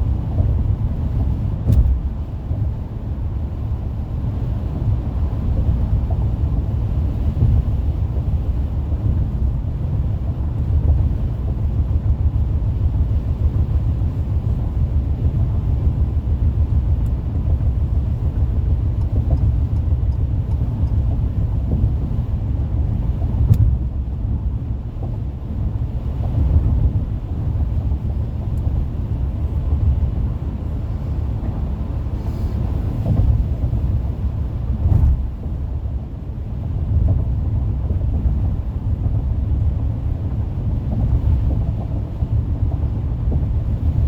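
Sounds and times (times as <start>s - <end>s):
car road noise: 0.0s - 44.0s.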